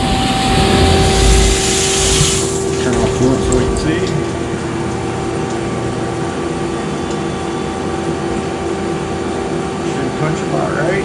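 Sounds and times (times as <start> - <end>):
metal lathe humming: 0.0 - 10.5.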